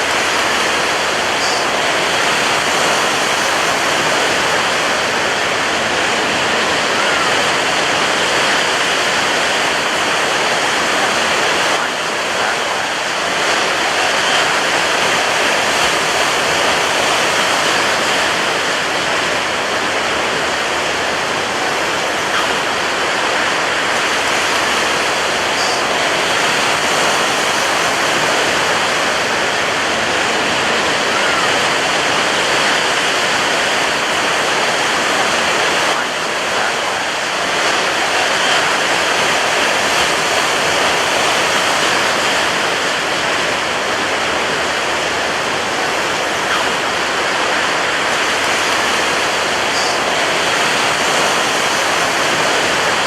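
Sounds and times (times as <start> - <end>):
surf crashing on beach: 0.0 - 53.0.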